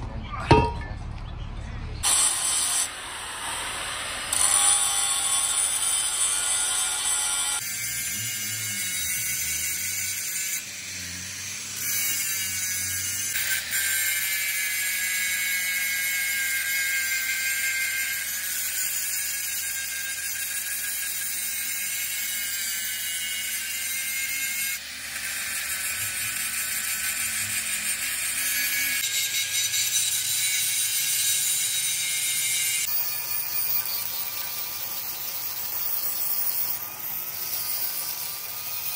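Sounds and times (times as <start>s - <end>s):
angle grinder grinding steel: 2.0s - 38.9s.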